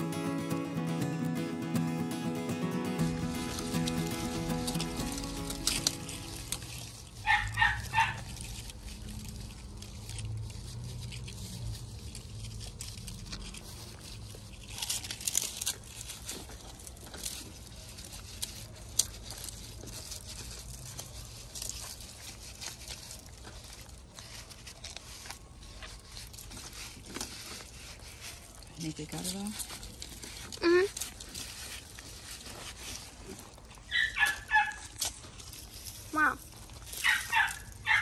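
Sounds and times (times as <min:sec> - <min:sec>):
dry seed heads rustling and crackling: 0:02.3 - 0:38.0.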